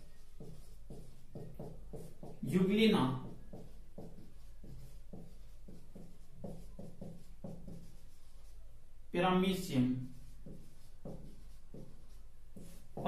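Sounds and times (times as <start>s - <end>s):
marker pen writing on whiteboard: 0.0s - 8.8s, 9.4s - 13.0s.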